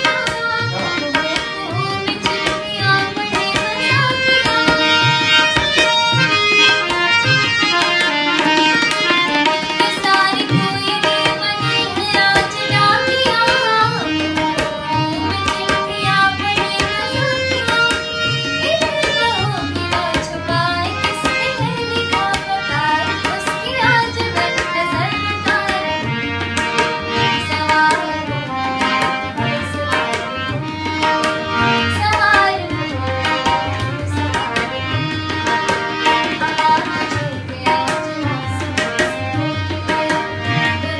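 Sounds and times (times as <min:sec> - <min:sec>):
woman singing: 0:00.0 - 0:06.0, 0:07.3 - 0:26.6, 0:27.2 - 0:40.9
tabla beat: 0:00.0 - 0:40.9.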